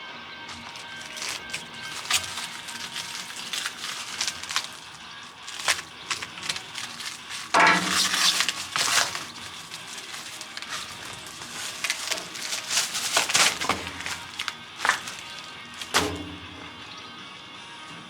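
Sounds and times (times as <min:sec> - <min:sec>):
metal parts clinking: 0:00.6 - 0:16.6.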